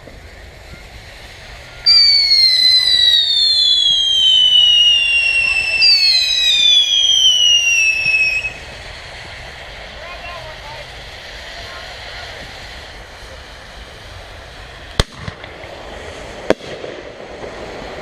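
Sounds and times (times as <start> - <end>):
whistling fireworks falling: 0.0 - 18.0.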